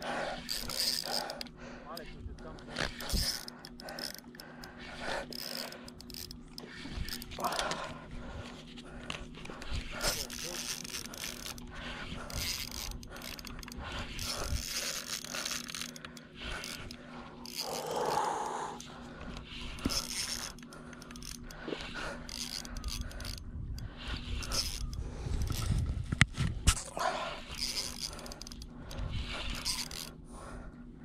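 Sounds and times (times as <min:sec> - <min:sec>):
fishing reel cranking: 0:00.0 - 0:26.0, 0:27.0 - 0:30.2.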